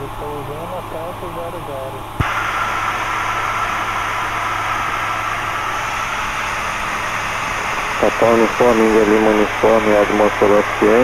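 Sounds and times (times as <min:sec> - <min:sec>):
light aircraft engine drone: 0:00.0 - 0:11.0
radio hiss: 0:00.0 - 0:11.0.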